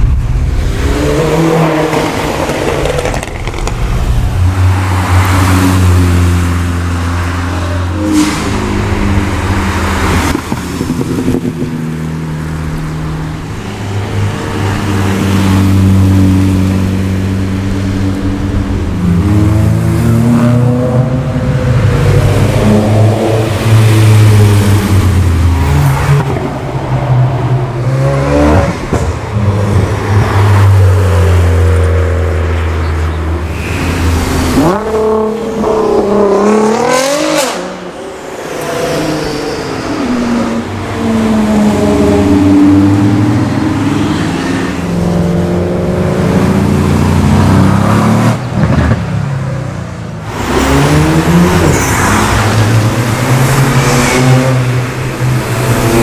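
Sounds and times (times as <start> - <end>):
car accelerating hard: 0.0 - 49.1
car engines passing slowly: 0.0 - 56.0.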